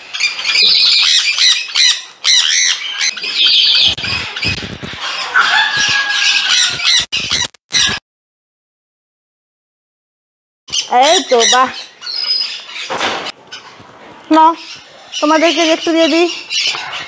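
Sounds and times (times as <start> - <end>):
parrots squawking: 0.0 - 8.0, 10.7 - 17.0.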